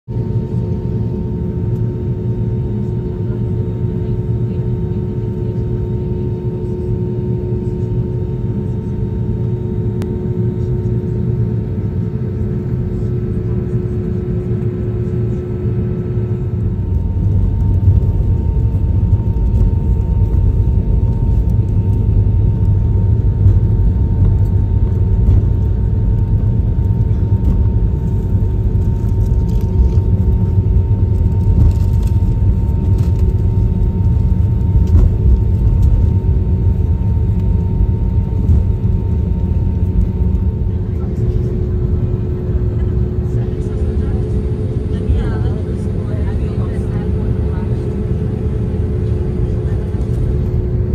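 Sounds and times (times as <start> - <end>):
jet engine whine and rumble: 0.1 - 50.9.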